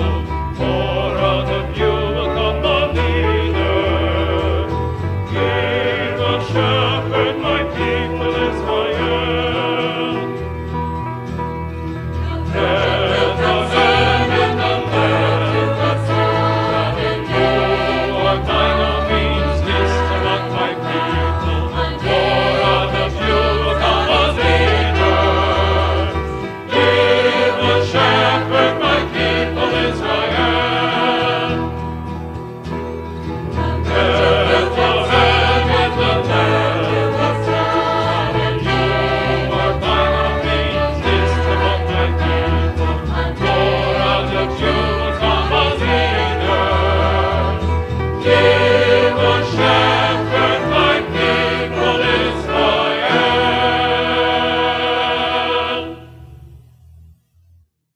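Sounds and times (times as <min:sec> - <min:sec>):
choir singing: 0:00.0 - 0:10.8, 0:12.2 - 0:32.2, 0:33.3 - 0:56.4.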